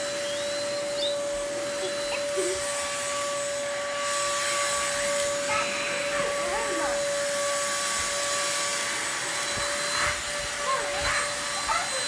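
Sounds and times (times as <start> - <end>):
handheld vacuum running: 0.0 - 12.0.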